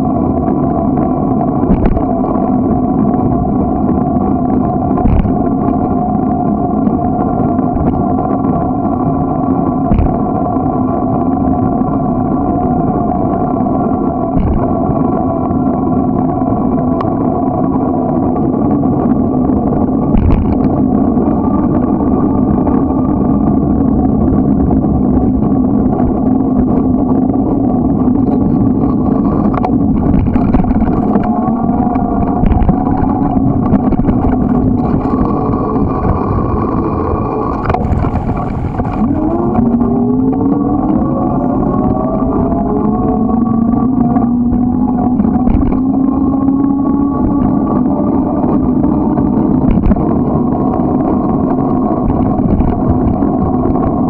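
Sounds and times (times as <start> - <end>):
bicycle tyres and wind rumble: 0.0 - 54.0
droning hum: 0.0 - 54.0.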